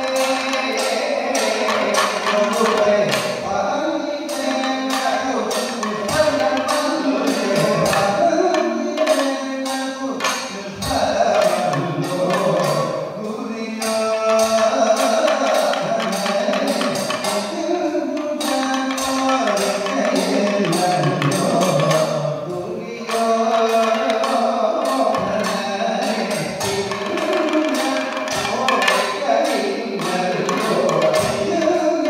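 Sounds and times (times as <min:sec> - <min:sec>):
drums beating: 0:00.0 - 0:32.0
men singing: 0:00.0 - 0:32.0.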